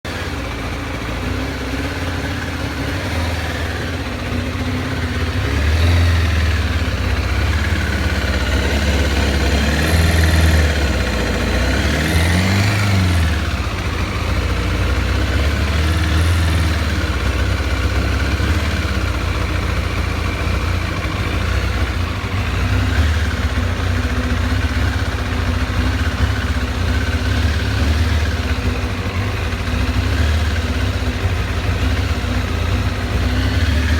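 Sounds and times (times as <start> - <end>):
motorcycle engine rough idle: 0.1 - 33.9.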